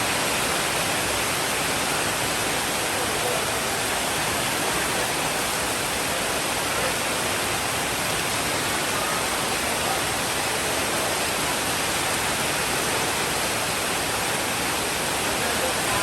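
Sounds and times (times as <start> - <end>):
steady rain downpour: 0.0 - 16.0.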